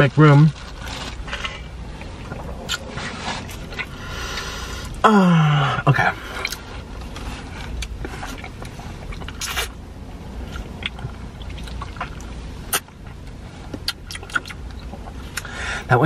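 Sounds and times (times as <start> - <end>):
car rumble: 0.0 - 16.0
people chewing: 0.7 - 9.8, 10.4 - 15.8.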